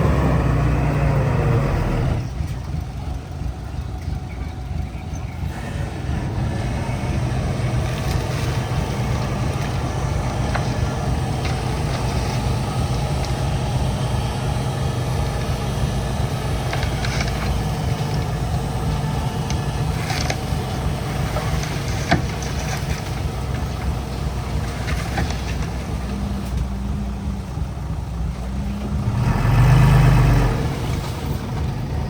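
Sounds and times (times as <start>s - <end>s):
heavy diesel engine droning: 0.0s - 32.0s.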